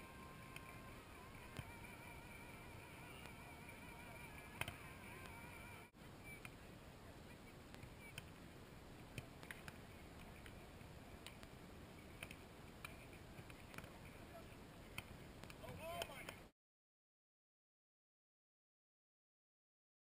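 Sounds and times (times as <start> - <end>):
faint outdoor hiss: 0.0 - 16.5.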